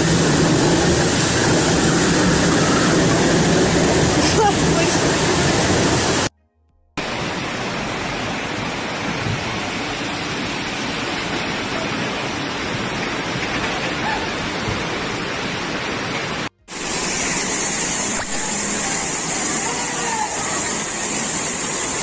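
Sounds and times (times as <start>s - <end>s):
floodwater rushing: 0.0s - 6.3s, 7.0s - 22.0s.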